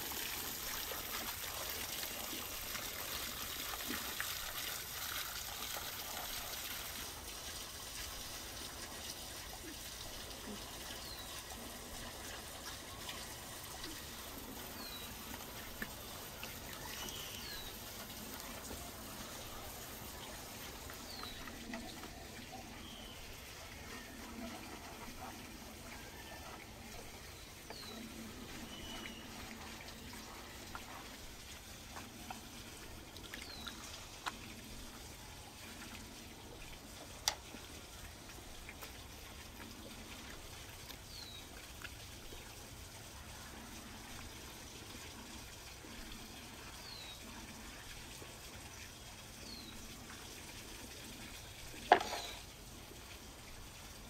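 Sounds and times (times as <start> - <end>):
marinade trickling and sloshing: 0.0 - 54.0.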